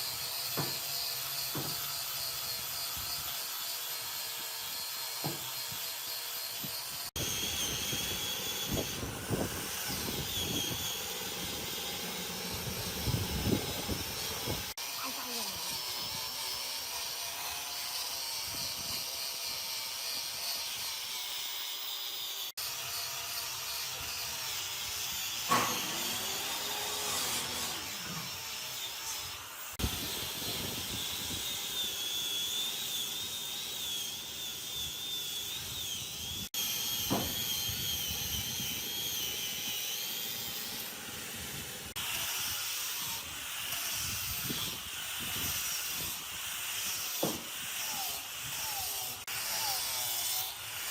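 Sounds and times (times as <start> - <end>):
power tool whining on wood: 0.0 - 50.9.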